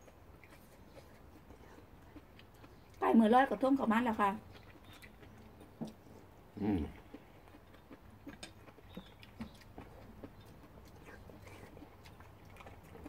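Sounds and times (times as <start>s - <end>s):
chewing and slurping noodles: 0.0s - 3.0s, 4.4s - 13.0s.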